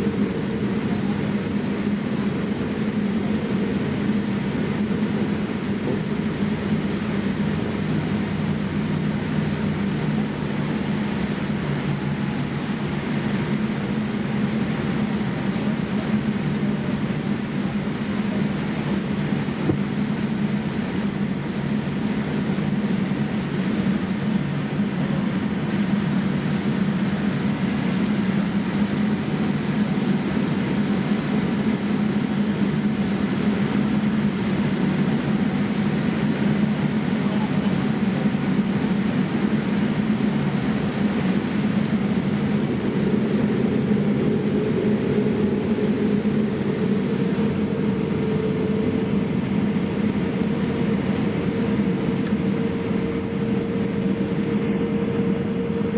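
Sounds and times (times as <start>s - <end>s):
airliner engine hum: 0.0s - 55.9s.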